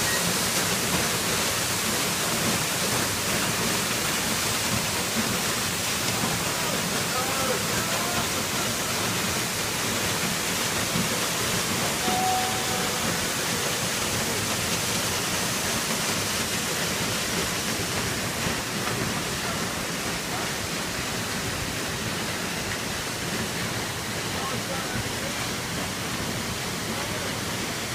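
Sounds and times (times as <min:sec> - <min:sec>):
small waterfall rushing into pool: 0:00.0 - 0:27.9.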